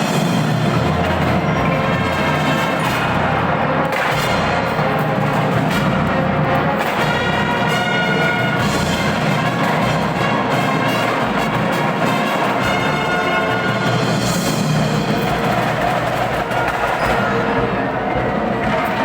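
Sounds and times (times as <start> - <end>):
brass chords: 0.0 - 19.0
marching drums: 0.0 - 19.0.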